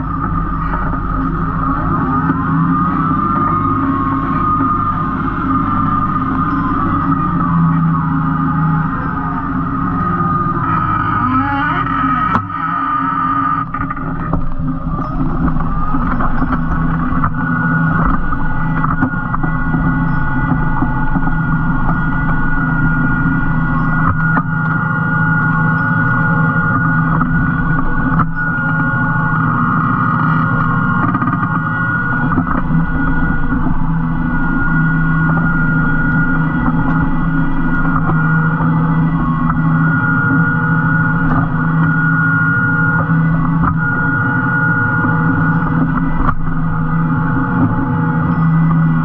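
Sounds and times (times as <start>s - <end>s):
tractor engine under load: 0.0s - 49.0s
whine: 0.0s - 49.0s.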